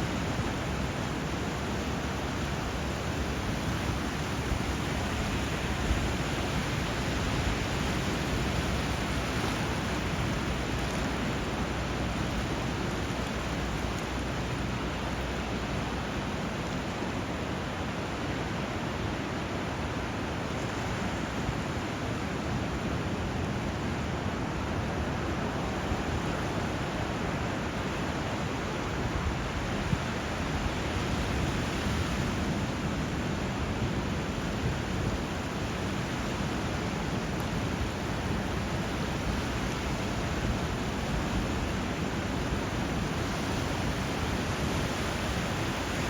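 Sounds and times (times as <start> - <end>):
rushing water hiss: 0.0 - 22.7, 24.9 - 46.0.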